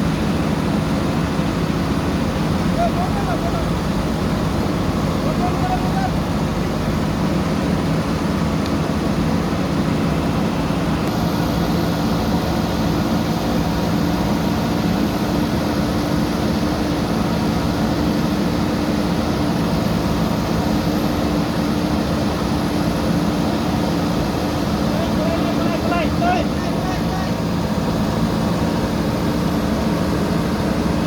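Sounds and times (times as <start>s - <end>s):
diesel engine droning: 0.0s - 31.0s.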